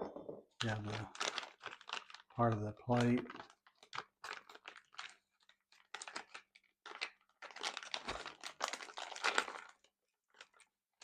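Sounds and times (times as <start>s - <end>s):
packaging crinkling and rustling: 0.6s - 11.0s.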